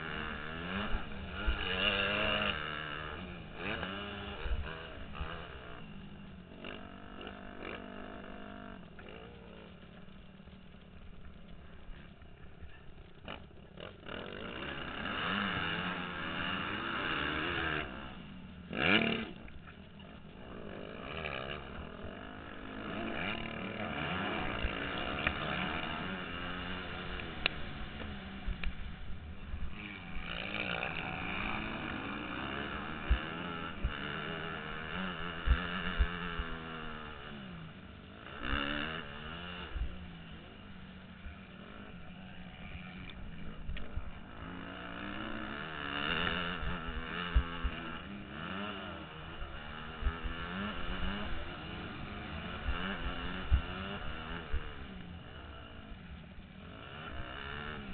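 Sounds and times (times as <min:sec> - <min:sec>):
motorbike engine revving: 0:00.0 - 0:57.9.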